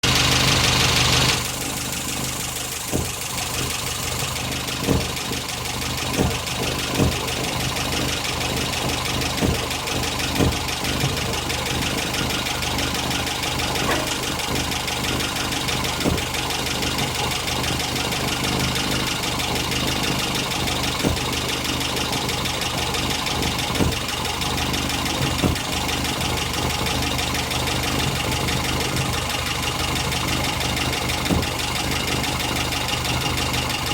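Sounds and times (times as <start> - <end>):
car engine idling: 0.0 - 33.9
engine sharp knocks: 0.0 - 33.9.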